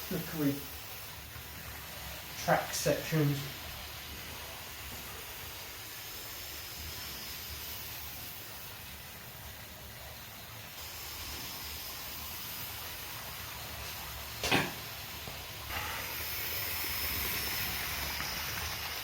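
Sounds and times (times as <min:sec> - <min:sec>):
model train motor whirring: 0:00.0 - 0:14.2, 0:15.3 - 0:19.0.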